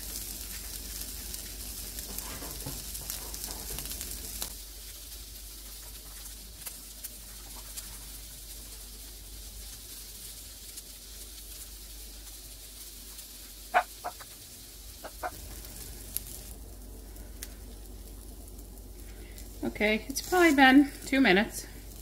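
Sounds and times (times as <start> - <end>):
meat sizzling in a skillet: 0.0 - 22.0.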